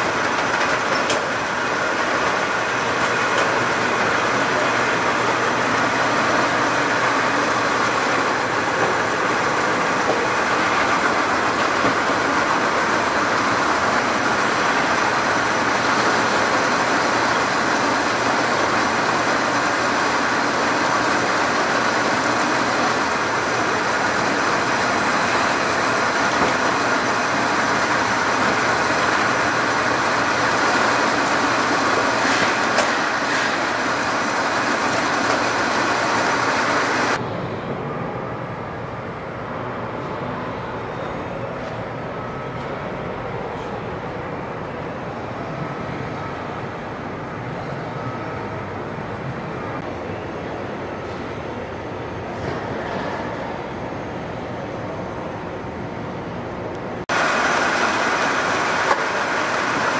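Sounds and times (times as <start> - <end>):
machinery conveyors running: 0.0 - 49.9, 57.1 - 59.9.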